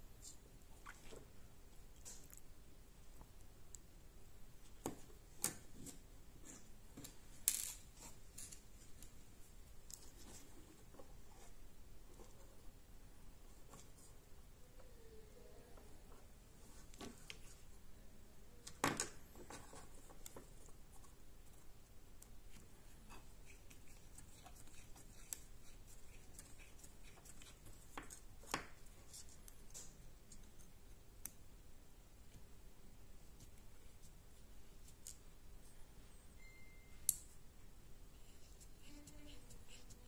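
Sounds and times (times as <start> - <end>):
low room hum: 0.0 - 40.0.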